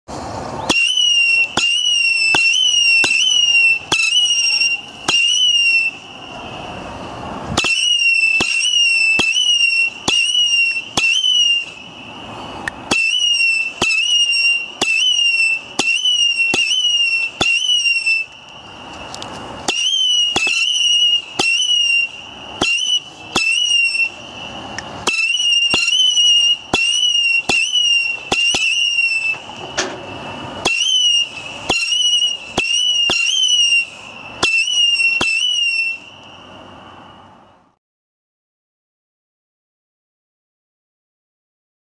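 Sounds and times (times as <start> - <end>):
firework pops with whistles: 0.1 - 37.2.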